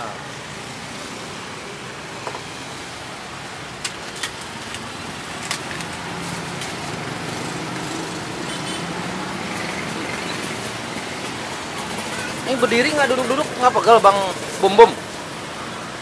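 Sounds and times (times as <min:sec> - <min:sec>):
street traffic: 0:00.0 - 0:16.0
vehicle engine humming: 0:00.0 - 0:16.0.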